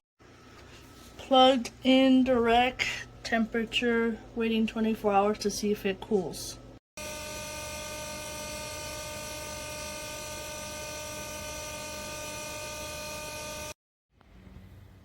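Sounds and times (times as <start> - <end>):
compressor fridge humming: 0.2 - 13.8
compressor and fan whine: 0.2 - 15.0.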